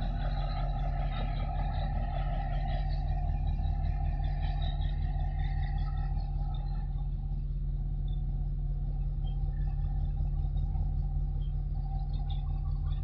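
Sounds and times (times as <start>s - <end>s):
faint steady hum: 0.0s - 13.0s
low rumble: 0.0s - 13.0s.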